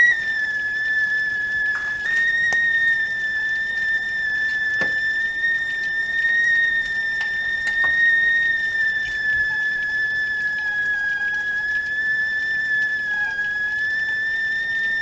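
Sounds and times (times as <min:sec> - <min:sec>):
tea kettle whistling: 0:00.0 - 0:15.0.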